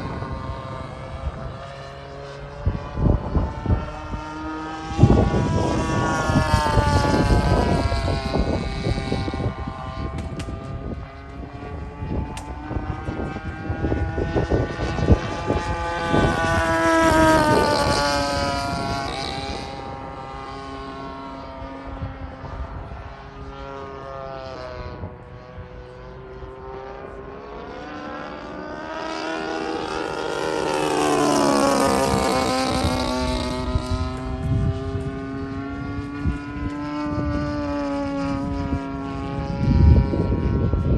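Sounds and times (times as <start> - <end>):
model airplane engine passing: 0.0 - 40.9.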